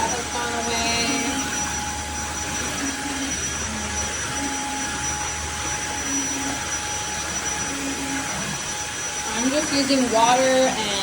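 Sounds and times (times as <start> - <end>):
floor cleaner running with whine: 0.0 - 11.0.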